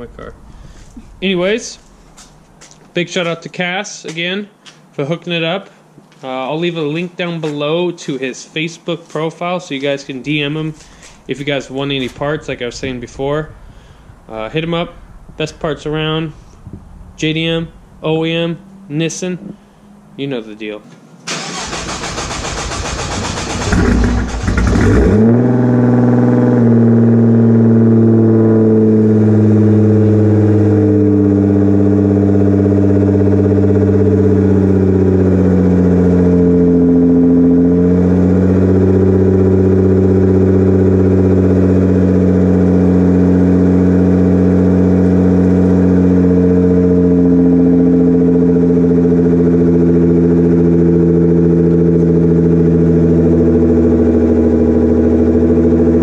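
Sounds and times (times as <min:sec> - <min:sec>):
car engine revving and idling: 0:00.0 - 0:03.3, 0:09.1 - 0:20.7, 0:21.3 - 0:56.0.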